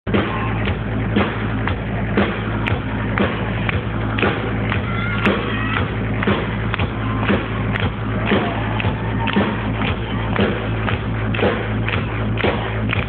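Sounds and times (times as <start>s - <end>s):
heavy bass: 0.0s - 13.0s
drum kit beat: 0.1s - 13.0s
live rock band playing: 0.1s - 13.0s.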